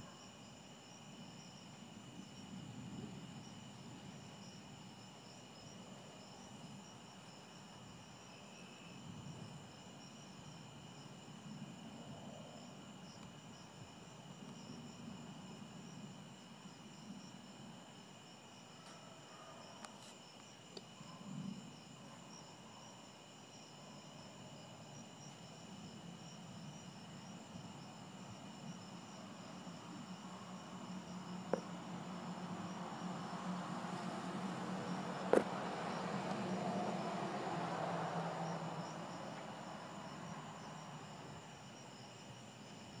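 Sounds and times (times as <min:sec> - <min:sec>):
night insects trilling: 0:00.0 - 0:43.0.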